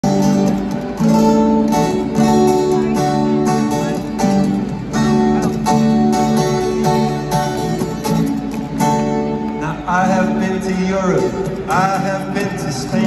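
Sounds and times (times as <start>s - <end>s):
amplified strummed guitar: 0.0s - 13.0s.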